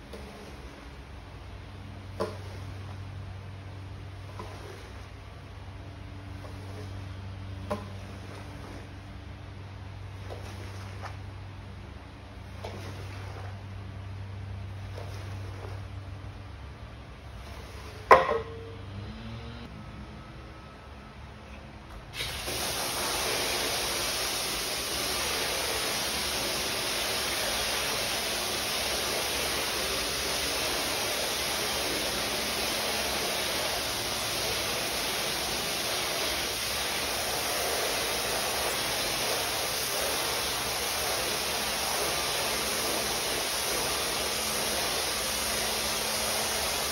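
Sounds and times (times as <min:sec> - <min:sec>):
water spraying from hose wand: 0:00.0 - 0:09.4, 0:10.0 - 0:16.3, 0:17.2 - 0:18.5, 0:22.1 - 0:46.9.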